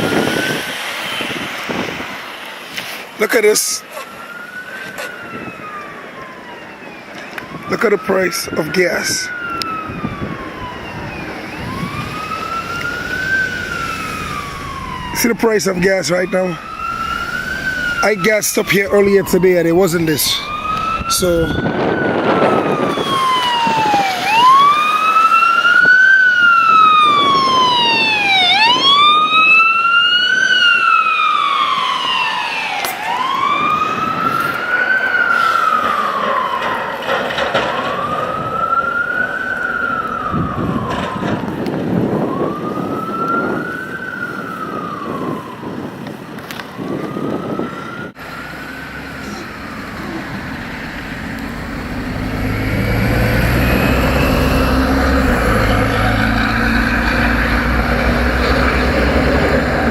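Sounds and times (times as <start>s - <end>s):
siren wailing: 0.0s - 59.9s.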